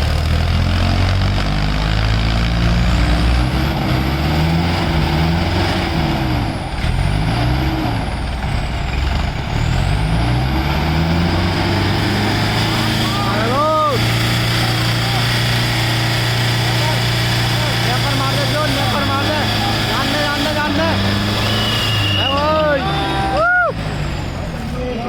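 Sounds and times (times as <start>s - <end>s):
tractor engines revving: 0.0s - 25.0s.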